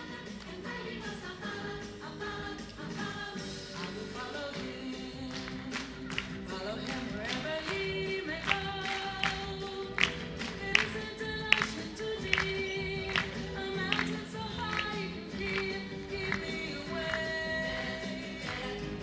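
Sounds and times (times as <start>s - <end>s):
dance music with singing: 0.0s - 19.0s.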